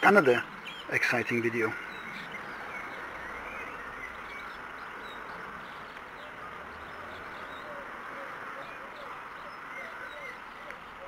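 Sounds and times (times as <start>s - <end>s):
faint birds chirping: 0.0s - 11.0s
outdoor background hiss: 0.0s - 11.0s.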